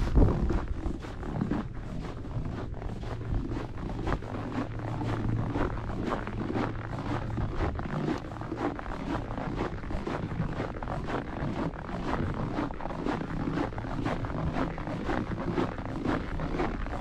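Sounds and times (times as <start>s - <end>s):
short irregular crackles: 0.0s - 17.0s.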